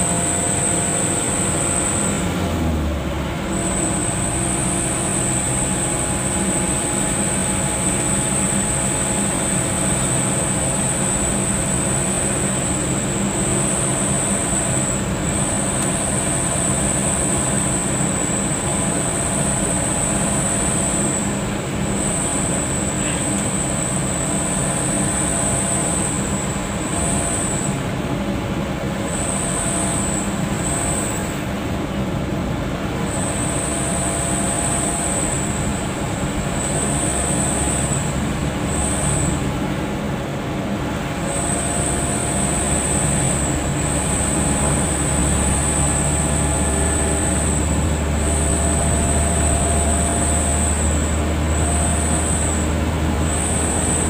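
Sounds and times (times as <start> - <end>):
car engine drone and road noise: 0.0 - 54.0.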